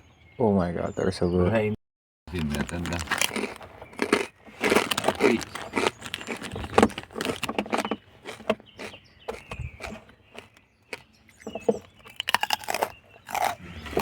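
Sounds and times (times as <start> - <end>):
crunching pork rinds: 2.3 - 14.0.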